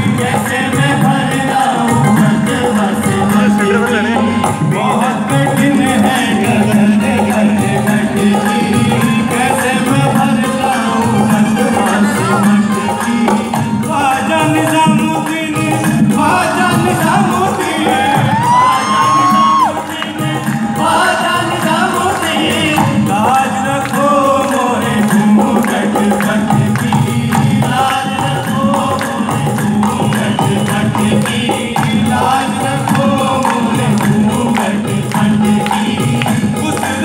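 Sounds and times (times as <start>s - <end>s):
instrumental accompaniment: 0.0s - 37.0s
male chorus singing: 0.0s - 37.0s
rhythmic percussion: 0.0s - 37.0s.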